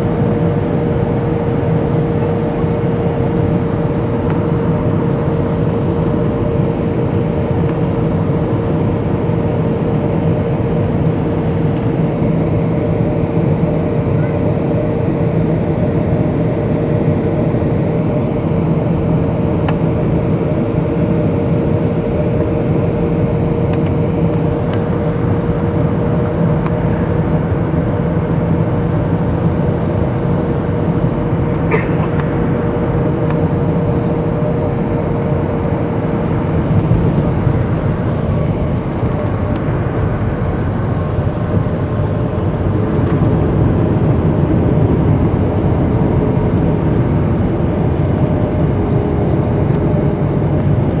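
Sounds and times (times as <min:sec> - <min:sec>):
jet engines droning: 0:00.0 - 0:51.0.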